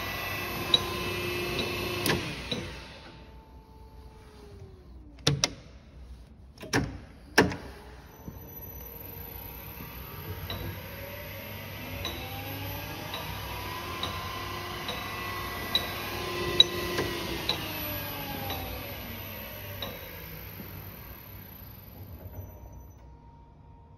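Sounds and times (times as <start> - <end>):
motor drive whine: 0.0 - 23.9.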